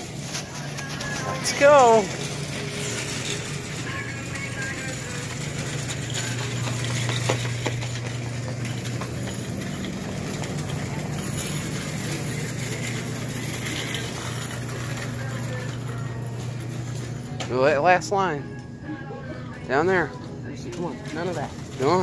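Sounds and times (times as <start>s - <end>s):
shopping cart rolling: 0.0s - 18.0s, 19.8s - 22.0s
steady low hum: 0.0s - 21.9s.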